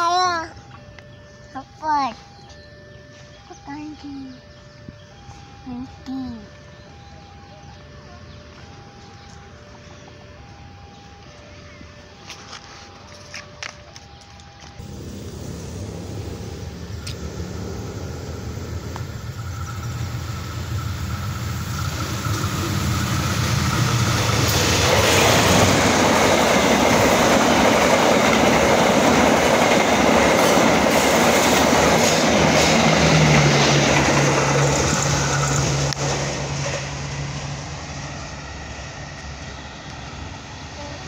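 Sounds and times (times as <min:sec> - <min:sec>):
train passing hum: 0:00.0 - 0:41.0.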